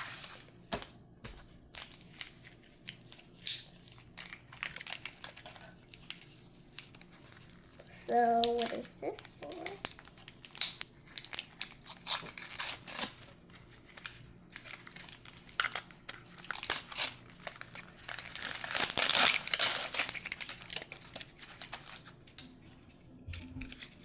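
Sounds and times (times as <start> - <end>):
toy packaging crinkling and tearing: 1.5 - 22.4, 23.6 - 24.0.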